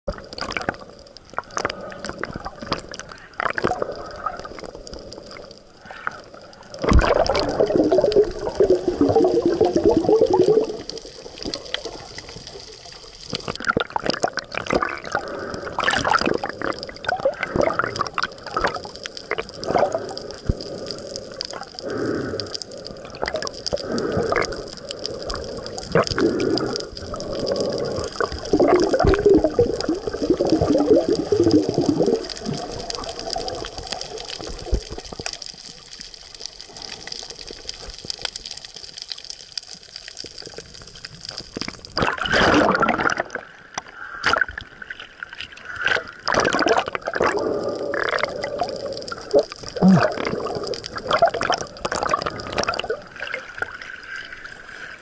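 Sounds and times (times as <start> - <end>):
sharp clicks and pops: 0.1 - 47.4, 48.0 - 53.0
bubbling: 0.1 - 55.0
muffled underwater movement: 0.1 - 55.0.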